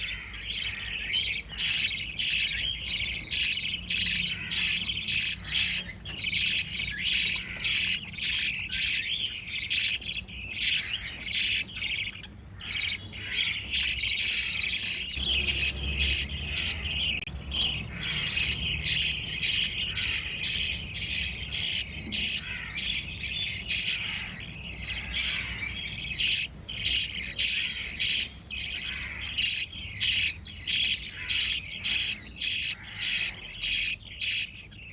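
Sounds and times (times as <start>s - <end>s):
parrot chicks begging chirps: 0.0s - 34.9s.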